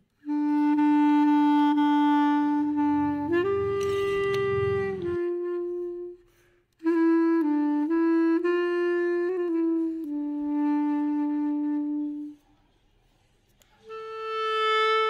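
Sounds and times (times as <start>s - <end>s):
slow wind instrument melody: 0.0s - 12.5s, 13.8s - 15.0s.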